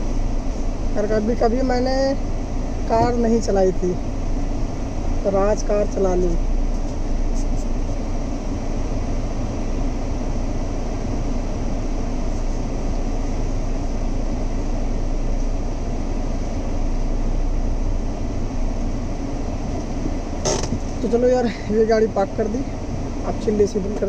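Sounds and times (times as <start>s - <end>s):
air conditioning blower: 0.0s - 24.0s
car cabin rumble: 0.0s - 24.0s.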